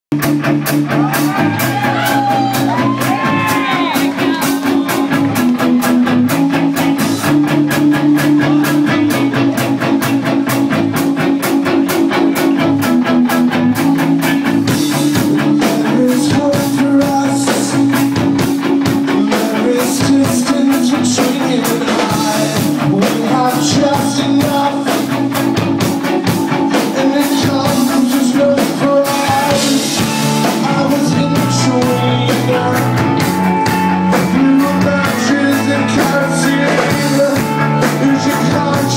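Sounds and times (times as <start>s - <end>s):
rock band playing live: 0.1s - 38.9s
man singing: 1.0s - 10.1s, 14.4s - 38.9s.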